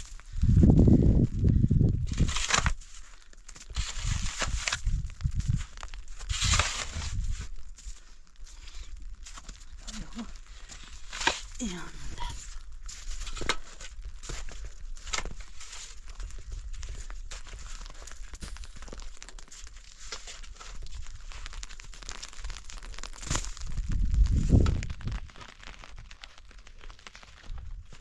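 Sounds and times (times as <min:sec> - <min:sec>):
rustling and crinkling: 0:00.0 - 0:28.0.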